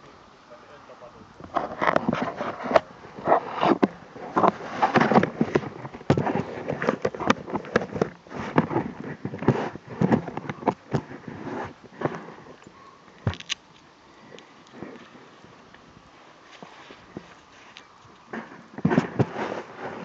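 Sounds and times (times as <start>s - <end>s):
gear rustling and scraping: 1.5s - 20.0s.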